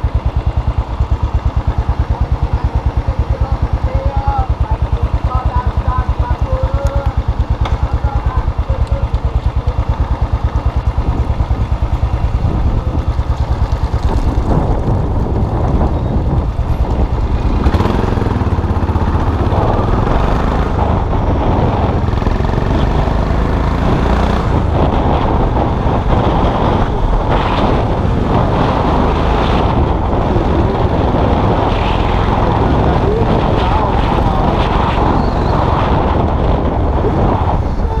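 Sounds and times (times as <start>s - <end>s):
motorcycle engine: 0.0s - 38.0s.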